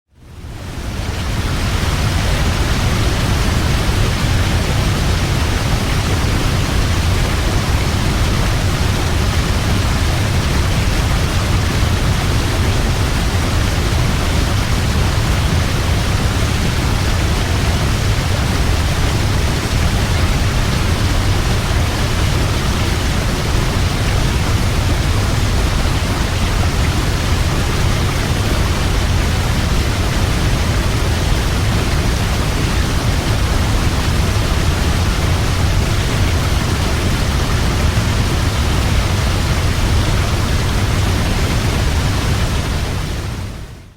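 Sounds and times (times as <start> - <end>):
waterfall rushing: 0.3 - 43.9.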